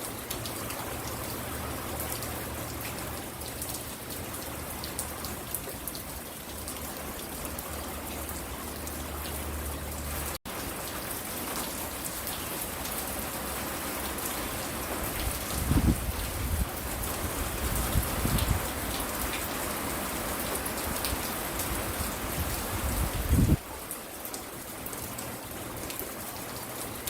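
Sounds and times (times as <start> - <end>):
rain pattering on porch: 0.0 - 27.0.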